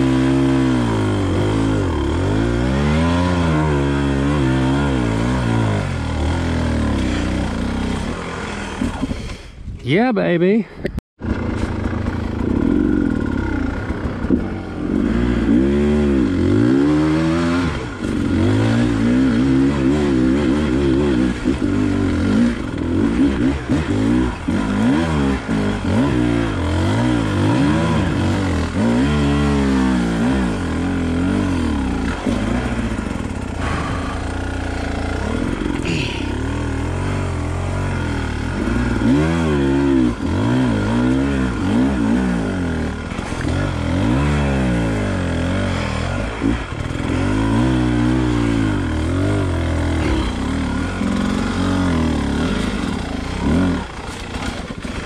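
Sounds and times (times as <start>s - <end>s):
dirt bike engine revving: 0.0s - 9.6s, 11.2s - 55.0s.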